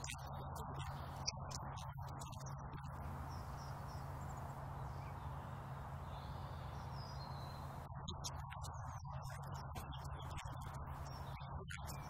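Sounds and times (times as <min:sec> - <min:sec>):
faint bird chirps: 0:00.0 - 0:12.0
low outdoor rumble: 0:01.9 - 0:11.8.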